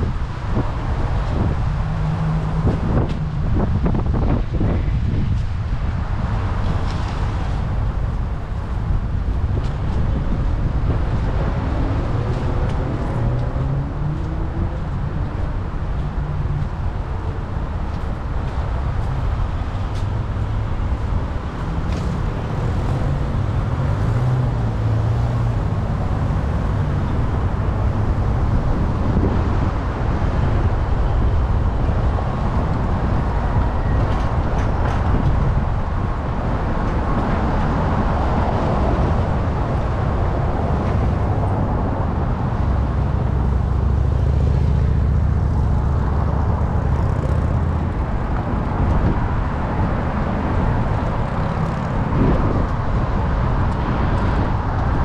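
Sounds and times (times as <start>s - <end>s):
road vehicle rumble: 0.0s - 55.0s.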